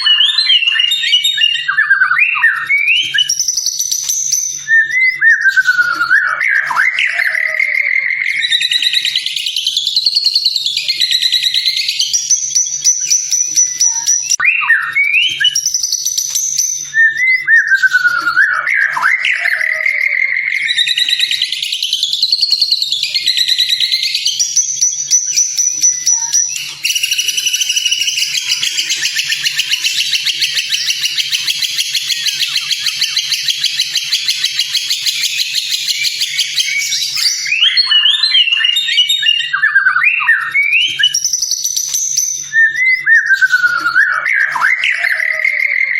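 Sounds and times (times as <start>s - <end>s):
bird whistling song: 0.0s - 45.9s.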